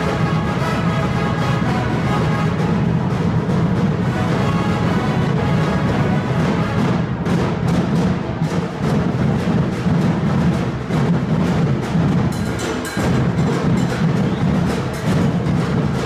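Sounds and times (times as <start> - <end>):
lively band music: 0.0 - 16.0
strong drum beat: 0.0 - 16.0.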